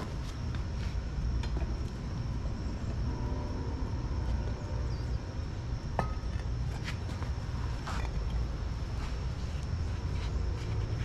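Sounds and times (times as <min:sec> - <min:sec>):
furnace burner rumbling: 0:00.0 - 0:11.0.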